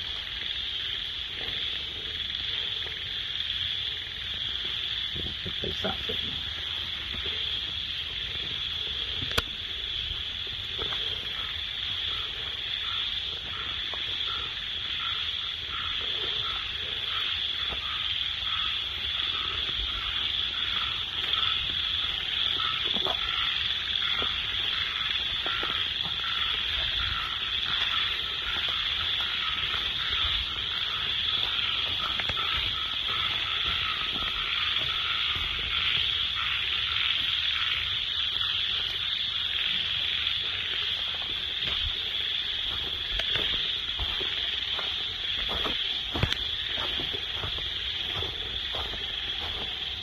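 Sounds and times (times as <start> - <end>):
frog calling: 0.0 - 50.0
high-pitched insect drone: 0.0 - 50.0.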